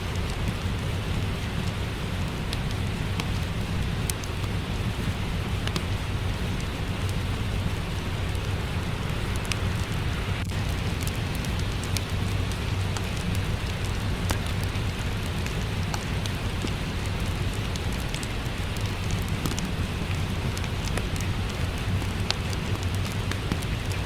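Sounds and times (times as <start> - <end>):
rain: 0.0 - 24.0
wood fire crackling: 0.0 - 24.0.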